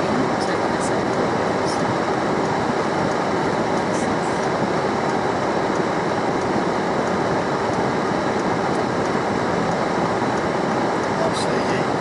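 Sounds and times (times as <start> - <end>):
car cabin hum and rush: 0.0 - 12.0.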